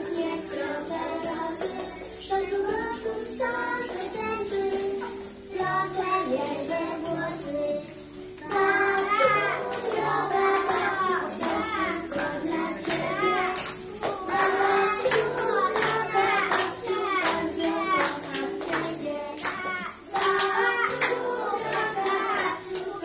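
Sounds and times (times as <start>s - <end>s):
children singing: 0.0s - 23.0s.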